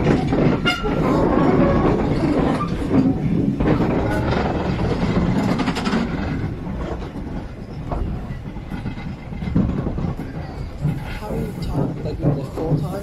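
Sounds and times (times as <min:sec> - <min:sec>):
steam train rumbling: 0:00.0 - 0:13.0
wheels clanking and rattling: 0:00.0 - 0:13.0.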